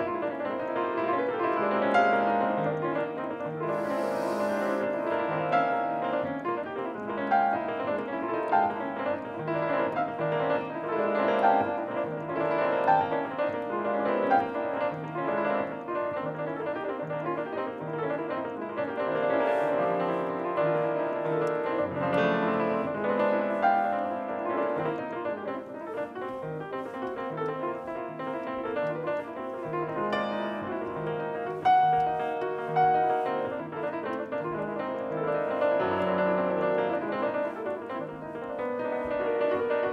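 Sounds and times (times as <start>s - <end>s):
grand piano piece: 0.0s - 39.9s.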